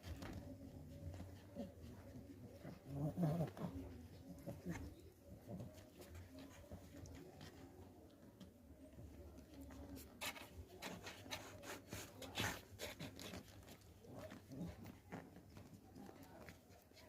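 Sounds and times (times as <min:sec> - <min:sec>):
faint rustling and scratching: 0:00.0 - 0:17.0
puppy noises: 0:00.0 - 0:17.0.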